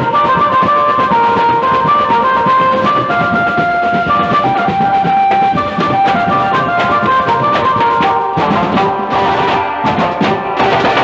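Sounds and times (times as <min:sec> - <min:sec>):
held melody notes: 0:00.0 - 0:11.0
procession band playing: 0:00.0 - 0:11.0
snare drums and cymbals: 0:00.0 - 0:11.0.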